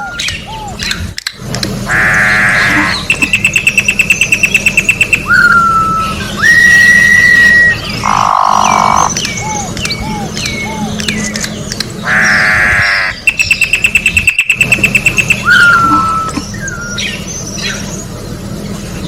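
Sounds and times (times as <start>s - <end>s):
bird singing varied phrase: 0.0s - 19.0s
other birds calling faintly: 0.0s - 19.0s.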